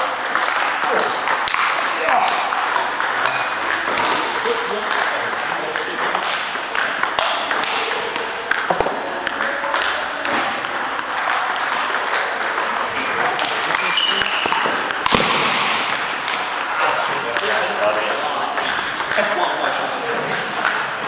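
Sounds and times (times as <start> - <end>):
table tennis ball clicks: 0.2 - 20.8.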